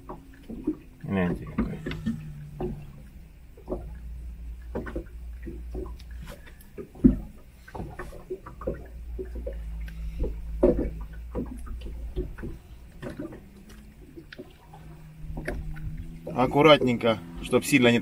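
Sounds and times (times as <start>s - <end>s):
knocks taps and rustles: 0.0s - 17.5s
low rumble: 0.0s - 18.0s.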